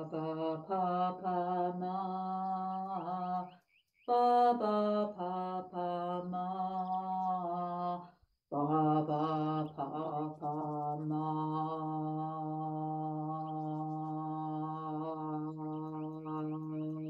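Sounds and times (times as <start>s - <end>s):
woman chanting syllables: 0.0s - 3.5s, 4.1s - 17.0s.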